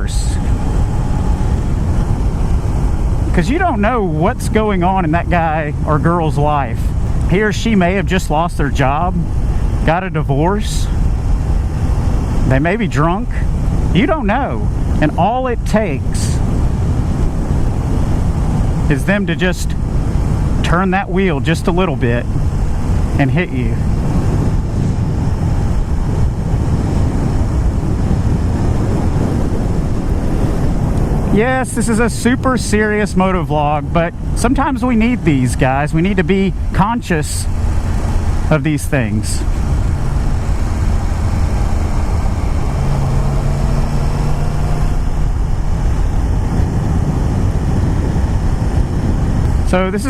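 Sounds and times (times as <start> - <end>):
motorcycle engine: 0.0 - 35.2, 35.8 - 50.0
road noise: 0.0 - 50.0
wind buffeting microphone: 0.0 - 50.0.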